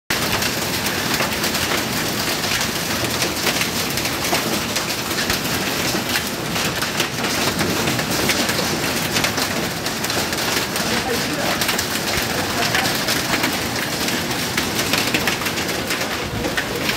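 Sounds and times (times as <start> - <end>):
rain on a tiled floor: 0.1 - 16.9.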